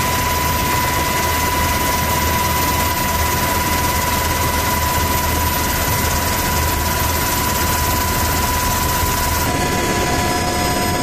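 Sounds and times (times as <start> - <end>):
helicopter in flight: 0.0 - 11.0.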